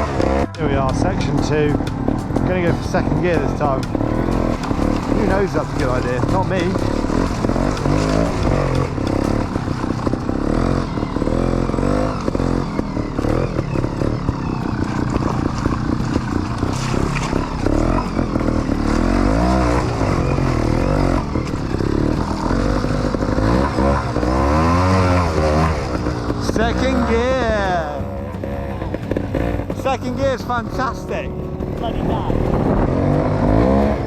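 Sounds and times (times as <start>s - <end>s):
motorbike engine revving: 0.0s - 34.0s.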